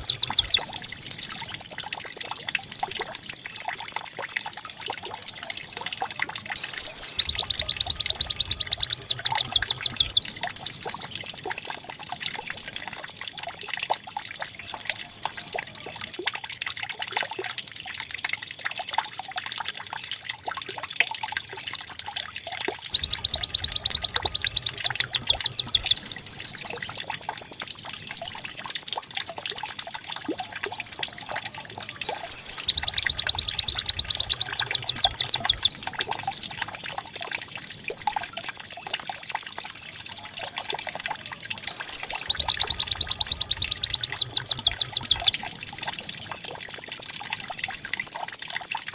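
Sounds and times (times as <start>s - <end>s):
bird trilling song: 0.0s - 15.8s, 22.9s - 48.9s.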